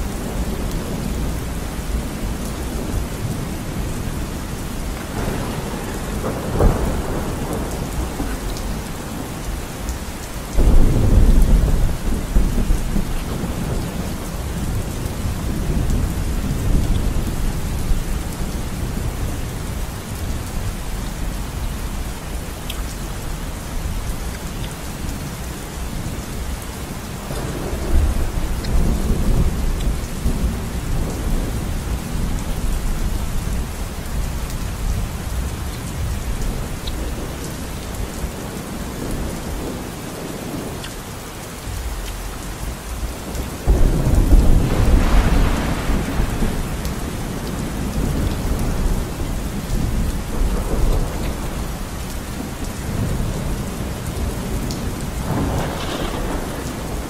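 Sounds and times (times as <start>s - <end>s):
thunder rumbling: 0.0s - 40.9s, 41.5s - 57.0s
steady rain: 0.0s - 57.0s.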